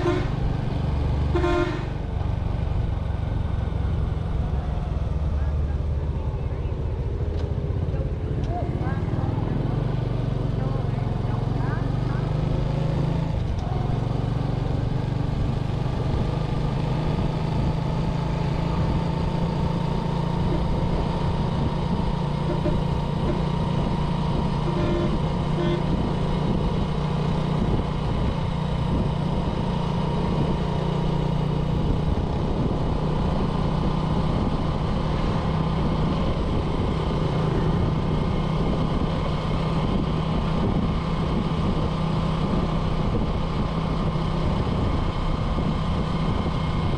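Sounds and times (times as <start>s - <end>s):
motorbike engine running: 0.0s - 46.9s
road and wind noise: 0.0s - 46.9s.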